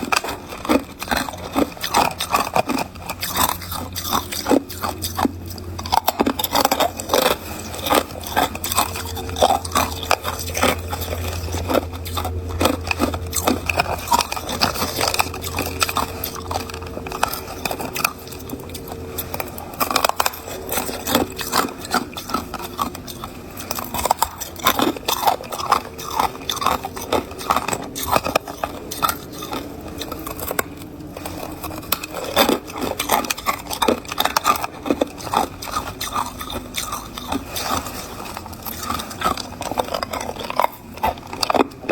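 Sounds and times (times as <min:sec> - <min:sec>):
person chewing ice: 0:00.0 - 0:41.9.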